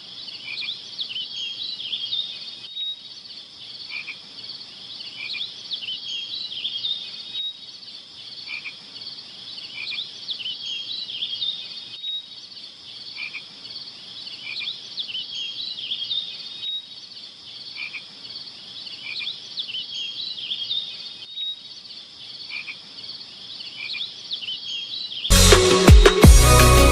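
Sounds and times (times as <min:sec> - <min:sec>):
frogs croaking: 0:00.0 - 0:25.3
insects trilling: 0:00.0 - 0:25.3.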